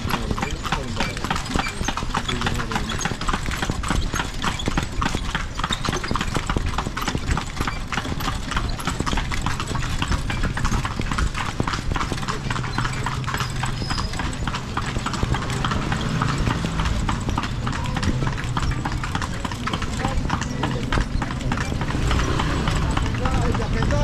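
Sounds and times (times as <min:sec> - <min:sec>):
horse hooves clip-clopping: 0:00.0 - 0:24.0.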